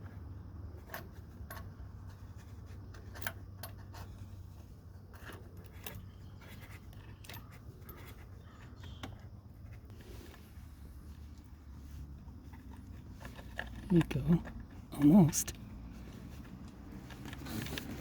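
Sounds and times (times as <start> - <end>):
small metallic clicks and scrapes: 0.0 - 10.5, 12.1 - 18.0.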